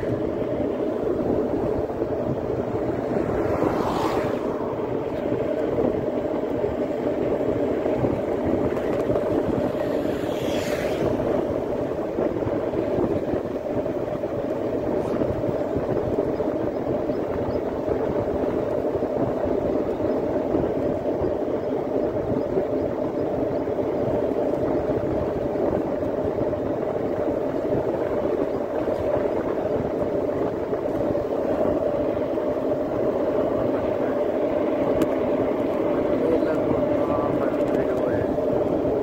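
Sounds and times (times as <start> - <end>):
vehicle running hum and rush: 0.0 - 39.0.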